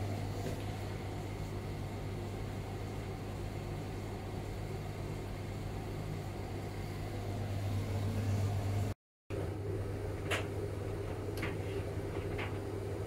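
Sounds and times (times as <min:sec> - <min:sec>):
tumble dryer humming: 0:00.0 - 0:13.0.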